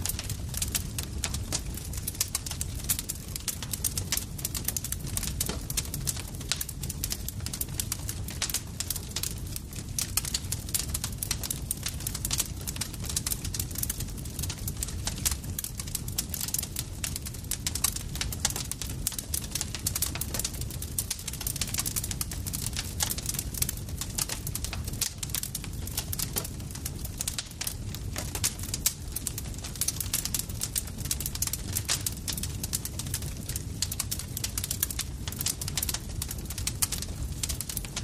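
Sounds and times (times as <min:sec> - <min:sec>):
campfire crackling and popping: 0:00.0 - 0:38.0
low rumble of burning: 0:00.0 - 0:38.0.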